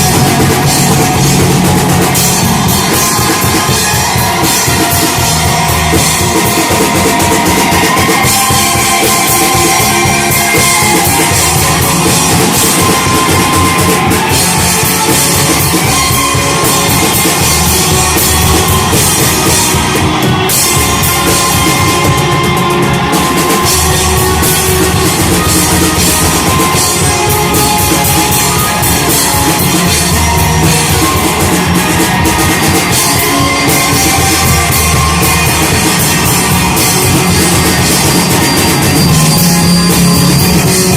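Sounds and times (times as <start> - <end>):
full drum kit: 0.0 - 40.9
rock band playing live: 0.0 - 40.9.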